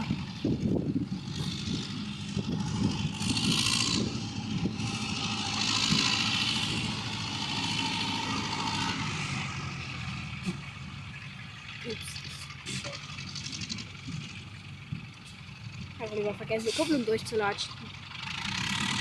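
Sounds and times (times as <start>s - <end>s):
distant tractor diesel engine: 0.0s - 19.0s.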